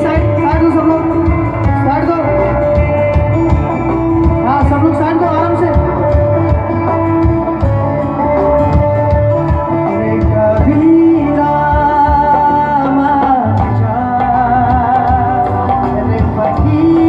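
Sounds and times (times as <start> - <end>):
song with singer over beat: 0.0 - 17.0.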